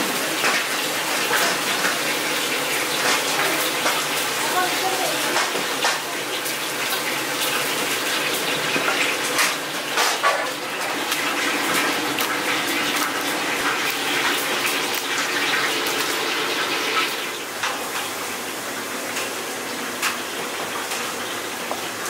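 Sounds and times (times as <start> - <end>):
utensils knocking and scraping cookware: 0.0 - 18.1
steady rush like running water: 0.0 - 22.0.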